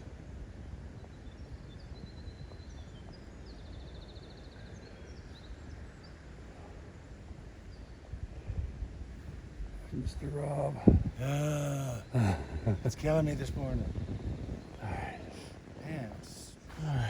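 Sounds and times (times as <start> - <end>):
wind rumbling on microphone: 0.0 - 17.0
small birds chirping: 0.9 - 8.2, 9.3 - 17.0.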